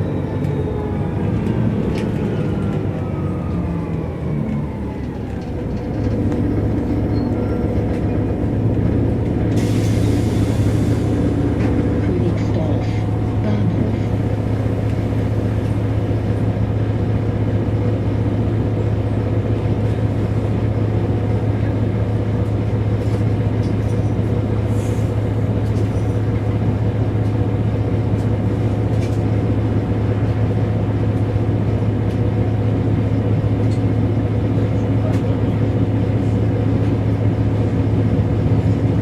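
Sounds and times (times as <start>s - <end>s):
bus engine droning: 0.0s - 39.0s.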